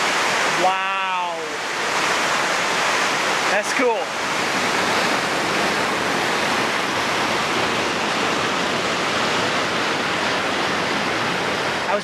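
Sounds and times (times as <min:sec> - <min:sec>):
fountain water splashing into pool: 0:00.0 - 0:12.0.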